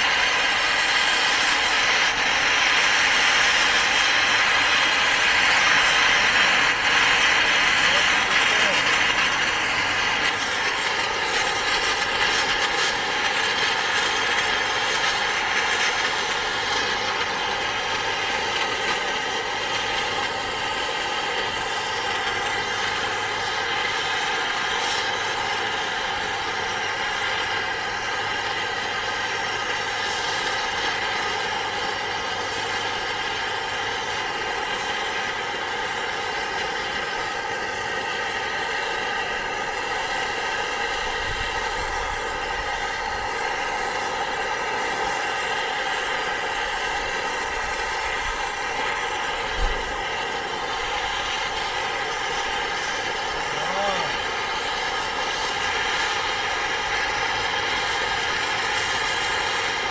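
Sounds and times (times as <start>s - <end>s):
machine humming: 0.0s - 59.9s.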